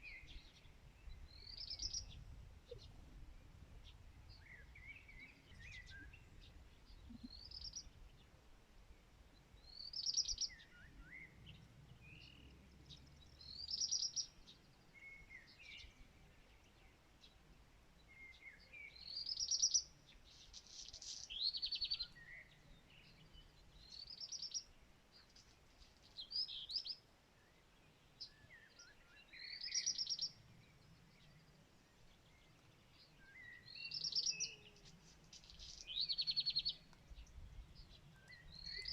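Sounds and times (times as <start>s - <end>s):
songbird singing with trills: 0.0s - 8.4s, 9.3s - 17.4s, 18.0s - 38.9s.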